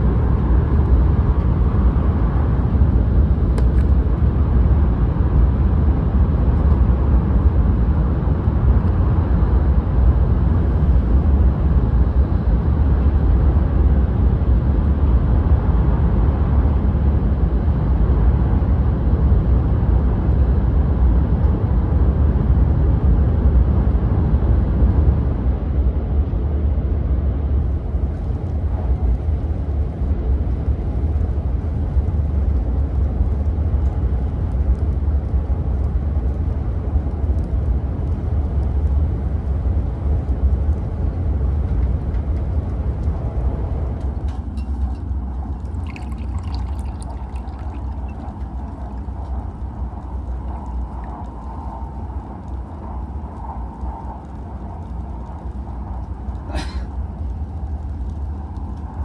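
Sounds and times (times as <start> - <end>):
train rumble inside cabin: 0.0 - 47.6, 48.3 - 59.0.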